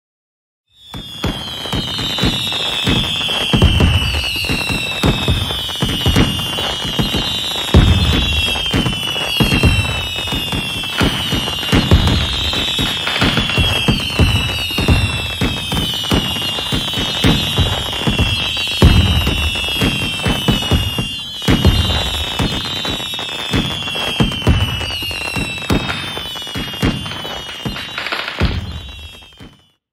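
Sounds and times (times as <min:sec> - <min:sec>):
fireworks whistles: 0:00.7 - 0:29.8
fireworks bangs: 0:00.8 - 0:29.8.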